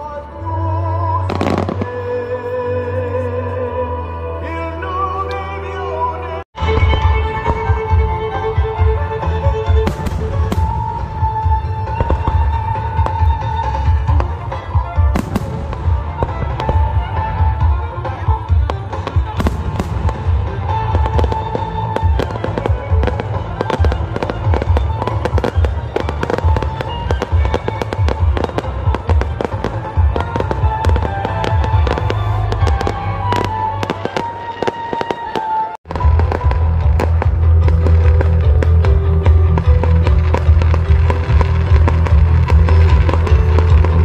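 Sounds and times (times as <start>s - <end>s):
music playing: 0.0s - 44.0s
fireworks bangs and crackling: 1.3s - 2.2s, 6.6s - 44.0s.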